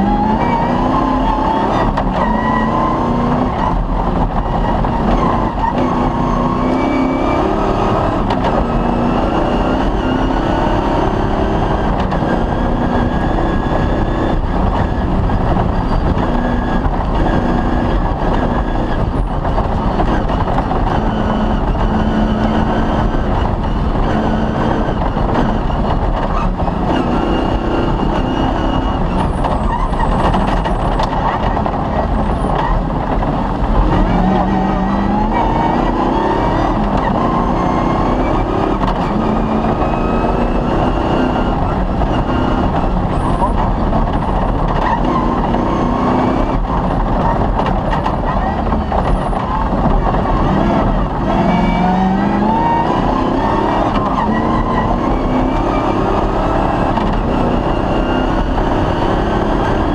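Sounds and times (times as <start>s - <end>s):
mechanical and road noise: 0.0s - 59.9s
rally car engine running hard: 0.0s - 59.9s.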